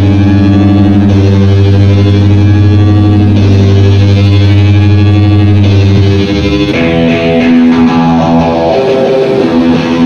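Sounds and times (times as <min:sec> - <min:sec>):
live band playing chords: 0:00.0 - 0:10.0.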